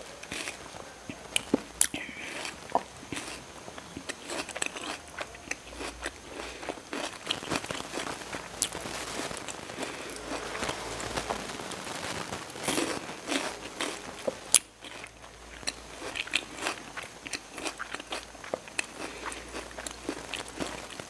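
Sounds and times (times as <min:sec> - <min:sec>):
chewing crisp fruit: 0:00.0 - 0:21.0.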